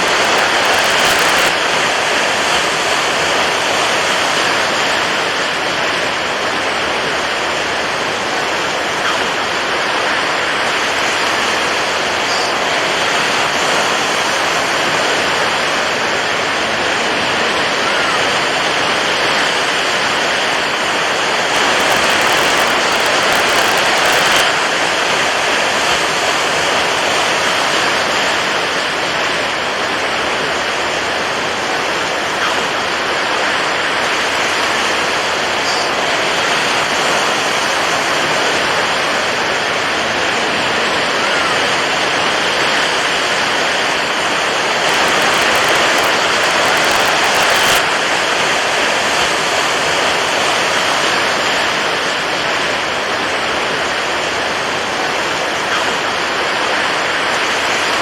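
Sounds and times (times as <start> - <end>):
water waves rushing: 0.0 - 58.0.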